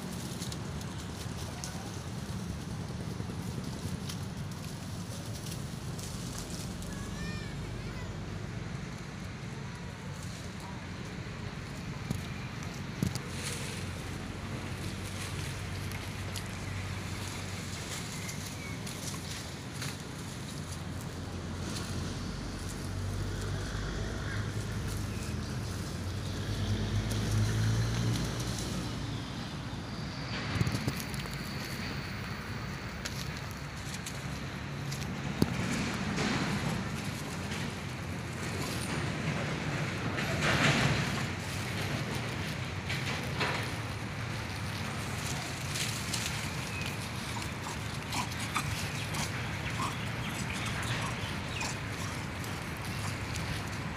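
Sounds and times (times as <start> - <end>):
faint clicks and rustles: 0.0 - 53.9
low engine hum: 0.0 - 53.9.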